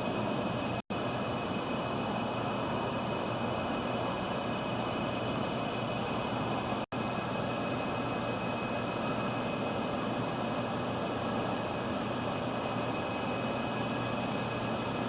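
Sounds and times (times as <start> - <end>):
thin high steady tone: 0.0 - 15.0.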